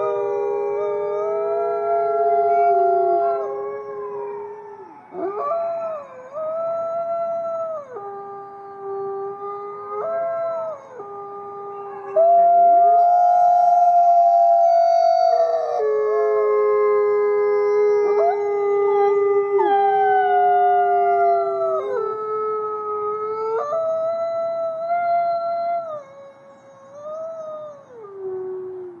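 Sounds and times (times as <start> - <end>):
dogs howling together: 0.0 - 26.2.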